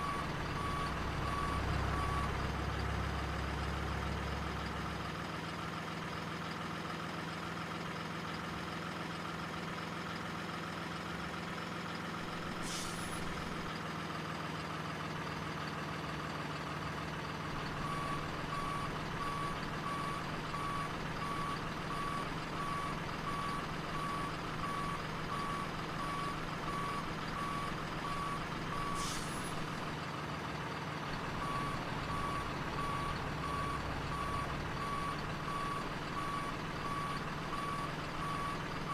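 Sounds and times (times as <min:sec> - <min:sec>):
simulated diesel engine sound: 0:00.0 - 0:38.9.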